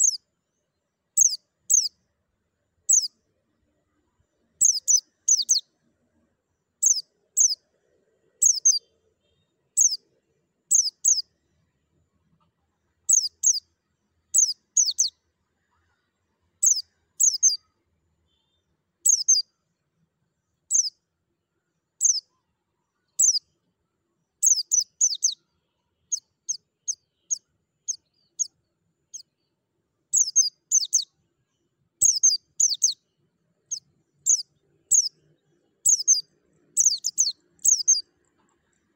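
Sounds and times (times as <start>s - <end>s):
bird chirping: 0.0s - 2.1s, 2.8s - 5.9s, 6.5s - 11.5s, 12.9s - 19.6s, 20.6s - 21.1s, 21.8s - 38.9s.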